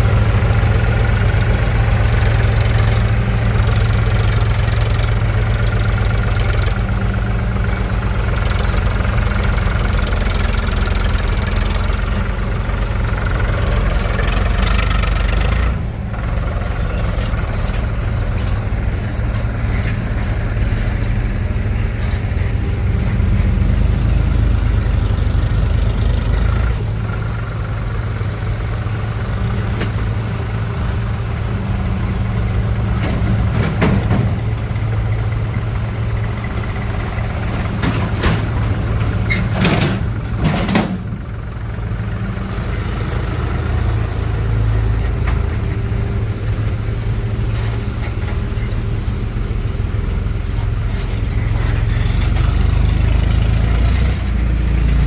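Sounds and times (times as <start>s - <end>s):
heavy diesel engine idling: 0.0s - 55.0s.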